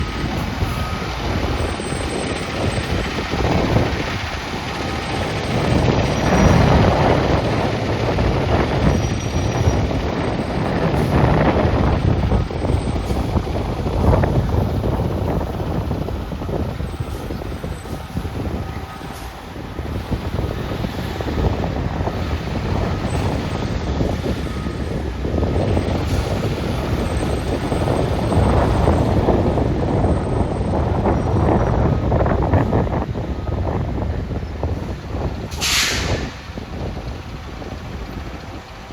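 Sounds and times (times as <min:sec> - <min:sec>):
diesel engine rumbling: 0:00.0 - 0:38.9.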